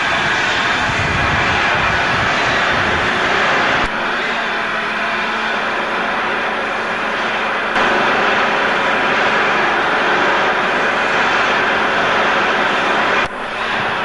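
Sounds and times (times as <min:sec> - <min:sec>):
steam locomotive rushing: 0:00.0 - 0:14.0.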